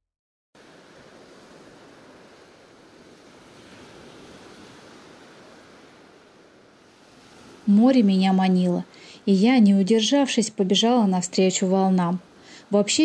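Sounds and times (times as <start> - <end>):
waves breaking on beach: 0.6 - 13.0
wind blowing: 0.6 - 13.0.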